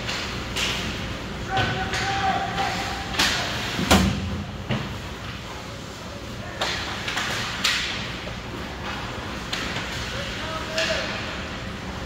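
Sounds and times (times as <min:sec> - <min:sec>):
steady hiss of rink noise: 0:00.0 - 0:12.0.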